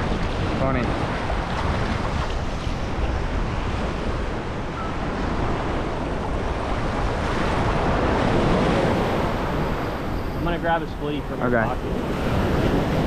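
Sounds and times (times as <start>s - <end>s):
beach surf washing: 0.0s - 13.0s
wind buffeting microphone: 0.0s - 13.0s.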